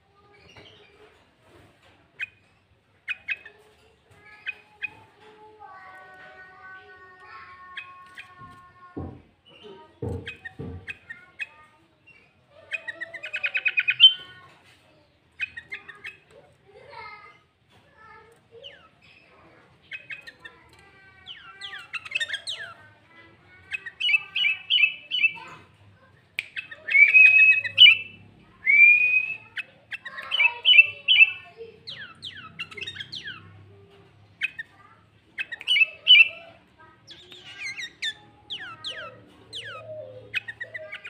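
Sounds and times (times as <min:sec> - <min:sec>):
bulbul singing: 0:02.2 - 0:14.4, 0:18.0 - 0:41.0.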